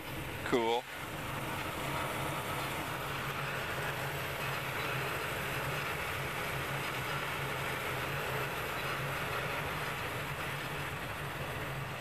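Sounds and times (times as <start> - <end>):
gas furnace humming and rushing: 0.0 - 12.0.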